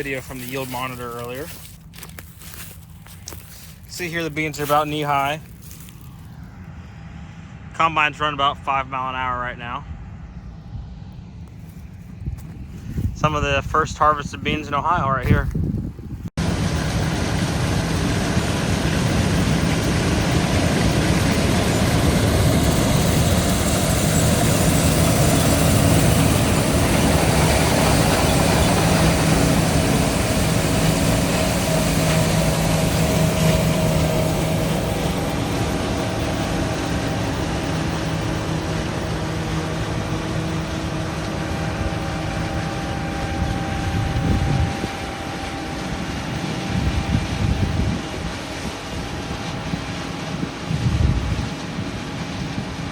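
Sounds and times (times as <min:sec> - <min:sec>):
threshing machinery noise: 0:00.0 - 0:07.7, 0:10.4 - 0:52.9
combine engine drone: 0:00.0 - 0:52.9.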